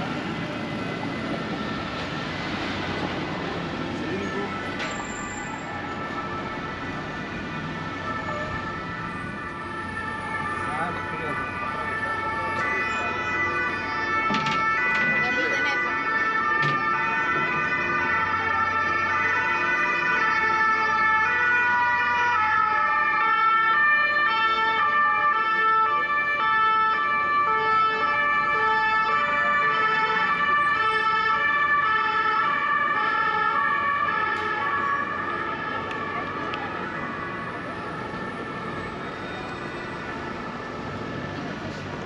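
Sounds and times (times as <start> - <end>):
two-tone emergency siren: 0.0 - 42.0.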